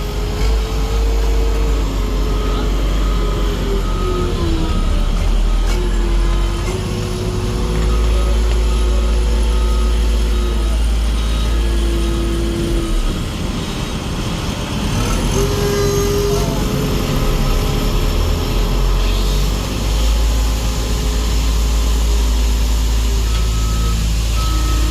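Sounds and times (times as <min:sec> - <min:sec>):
diesel machinery engine rumble: 0:00.0 - 0:24.9.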